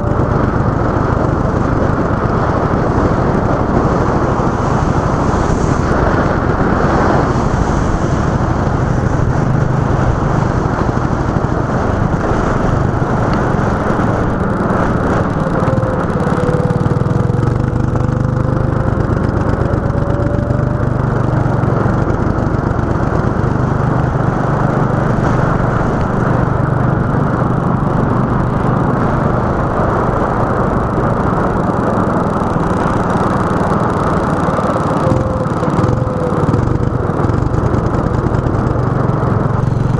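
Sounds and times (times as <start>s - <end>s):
faint whine rising in pitch: 0.0s - 39.9s
go-kart engine drone: 0.0s - 39.9s.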